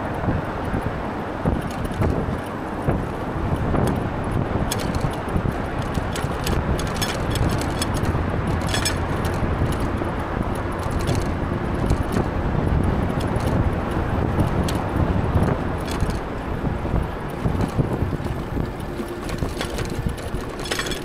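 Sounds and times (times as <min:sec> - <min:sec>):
bike rattling clicks: 0:00.0 - 0:21.0
wind and road noise: 0:00.0 - 0:21.0.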